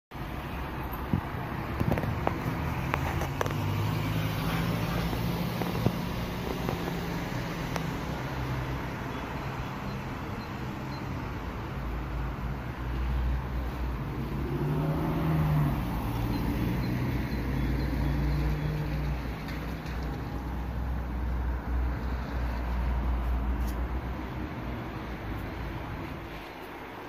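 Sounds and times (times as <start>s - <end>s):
street traffic: 0.1s - 27.0s.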